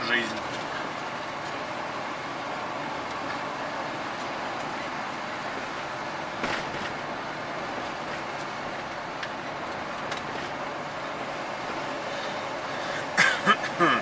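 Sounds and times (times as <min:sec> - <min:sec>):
road and engine noise in truck cab: 0:00.0 - 0:14.0.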